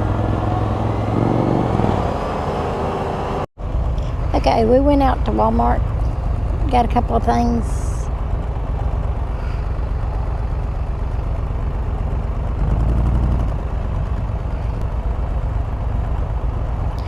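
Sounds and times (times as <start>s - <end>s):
low rumble: 0.0s - 17.0s
road and wind noise: 0.0s - 17.0s
three-wheeler engine running: 0.0s - 17.0s.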